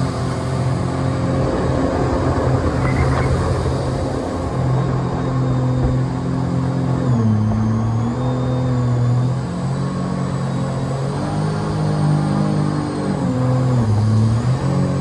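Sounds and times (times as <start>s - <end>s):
jet boat engine running: 0.0s - 15.0s.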